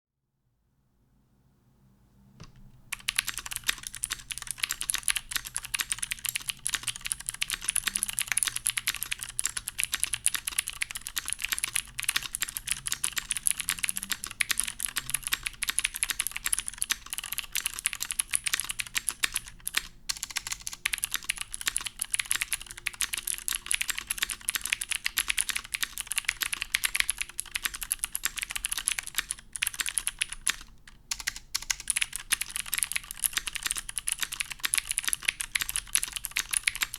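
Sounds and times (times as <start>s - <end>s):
fast typing on mechanical keyboard: 2.9s - 36.9s.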